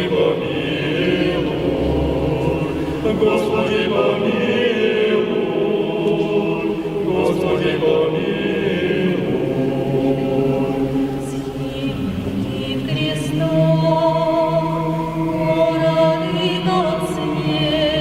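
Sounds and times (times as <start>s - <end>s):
vocal ensemble singing: 0.0s - 18.0s.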